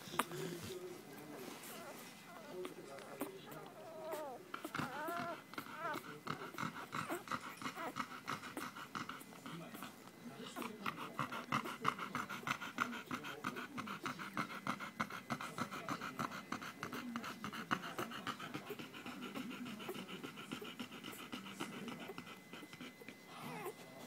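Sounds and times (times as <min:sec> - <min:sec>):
dog panting rapidly: 0:00.0 - 0:24.0.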